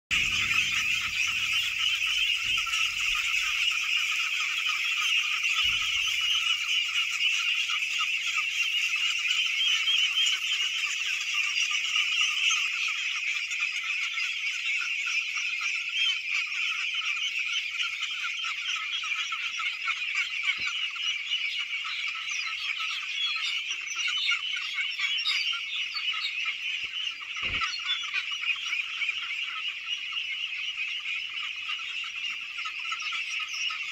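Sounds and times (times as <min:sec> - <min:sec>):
ducks quacking: 0:00.1 - 0:33.9.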